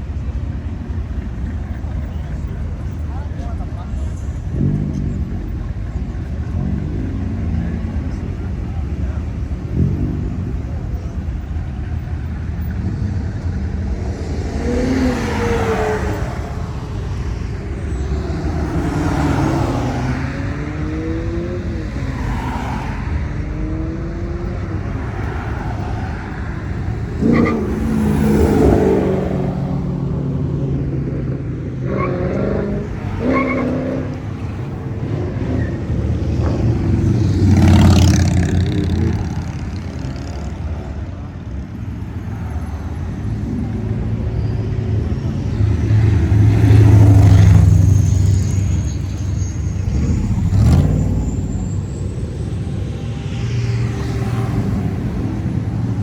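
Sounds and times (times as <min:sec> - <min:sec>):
car engines passing slowly: 0:00.0 - 0:56.0.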